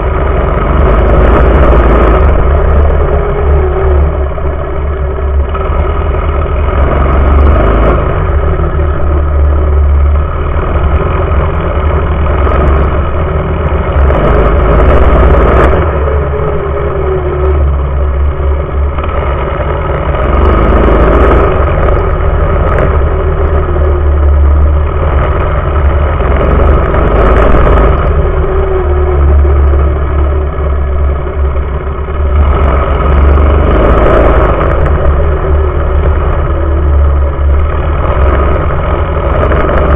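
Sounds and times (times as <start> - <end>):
ground rumble: 0.0 - 39.9
small engine revving: 0.0 - 39.9.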